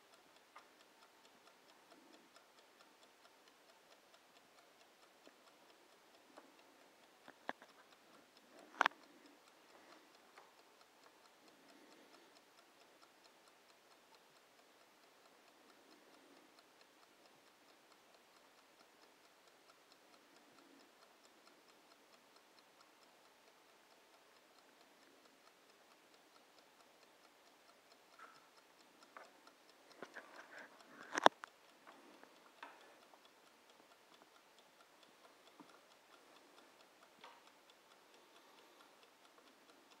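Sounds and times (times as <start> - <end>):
kitchen timer ticking: 0.0 - 40.0.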